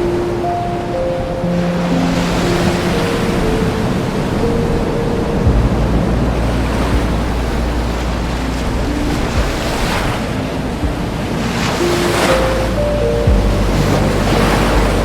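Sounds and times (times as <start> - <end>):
faint soft music notes: 0.0 - 15.0
ocean waves surging: 0.0 - 15.0
sea noise: 0.0 - 15.0.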